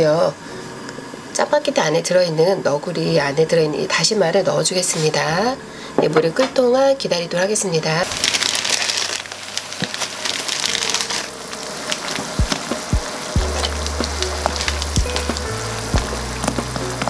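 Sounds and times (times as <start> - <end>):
water boiling and bubbling: 0.0 - 5.9, 7.8 - 17.0.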